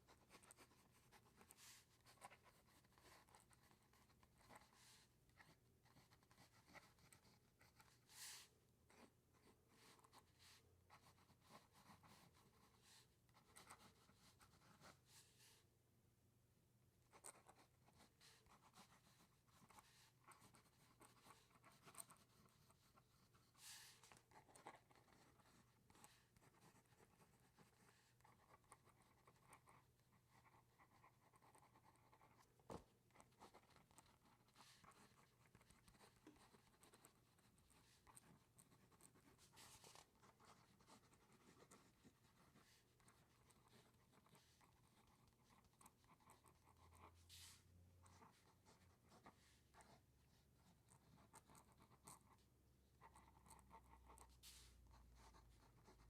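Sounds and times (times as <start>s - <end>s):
pen scratching on paper: 0.0s - 15.6s, 17.0s - 56.0s.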